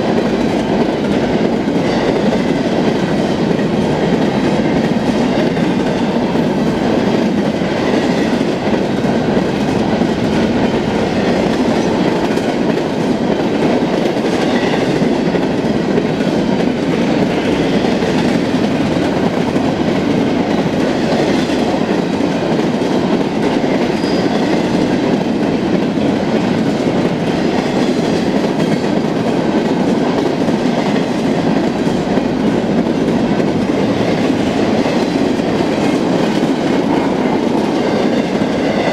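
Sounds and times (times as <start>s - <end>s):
freight train cars rumbling: 0.0s - 38.9s.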